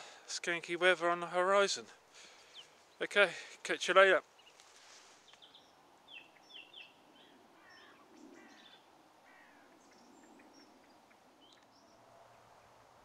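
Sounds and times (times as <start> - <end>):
faint background hiss: 0.0 - 13.0
faint birds chirping: 0.0 - 13.0.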